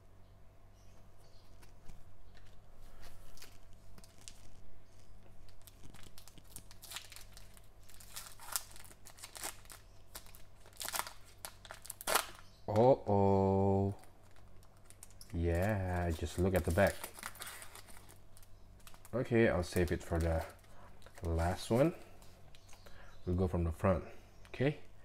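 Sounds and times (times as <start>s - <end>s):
foil wrapper crinkling and tearing: 1.6s - 12.9s, 13.8s - 22.8s.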